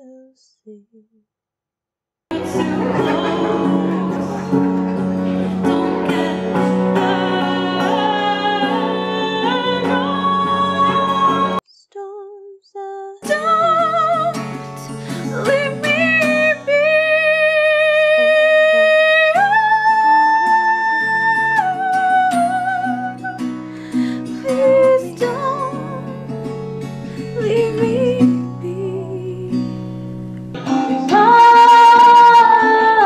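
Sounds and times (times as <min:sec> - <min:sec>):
woman singing: 0:00.0 - 0:01.1, 0:02.3 - 0:26.4, 0:27.2 - 0:29.7, 0:30.9 - 0:33.0
acoustic guitar: 0:02.3 - 0:11.6, 0:13.2 - 0:33.0.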